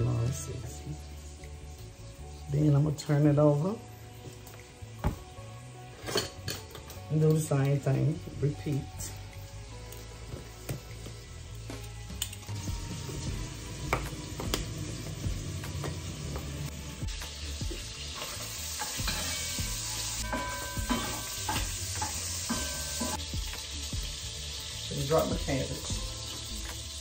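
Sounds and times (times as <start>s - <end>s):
pan sizzling: 0.0s - 27.0s.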